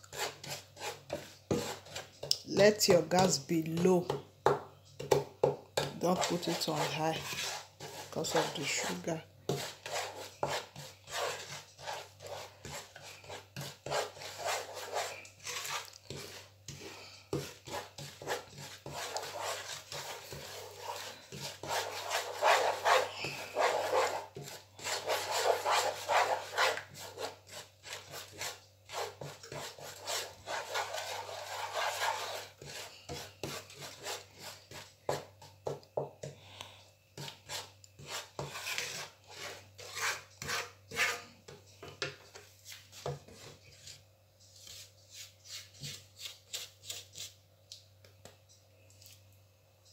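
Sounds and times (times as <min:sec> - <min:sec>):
wooden spatula scraping a pan: 0:00.0 - 0:04.2, 0:05.8 - 0:35.8, 0:37.2 - 0:47.3.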